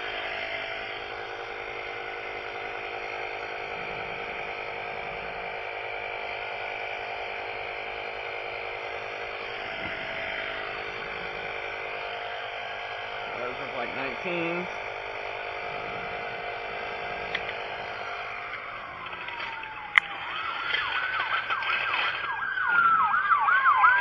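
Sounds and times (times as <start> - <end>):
mechanical whir and hum: 0.0 - 23.2.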